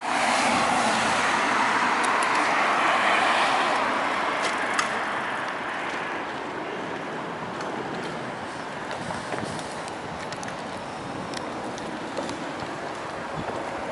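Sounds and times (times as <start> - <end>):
passing vehicle: 0.0 - 13.9.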